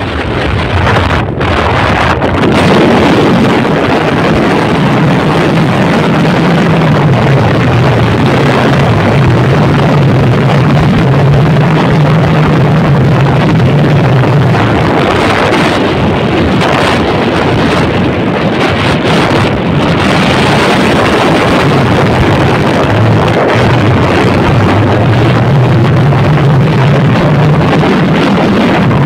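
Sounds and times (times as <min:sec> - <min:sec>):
engine hum: 0:00.0 - 0:29.0
wind rushing over microphone: 0:00.0 - 0:29.0.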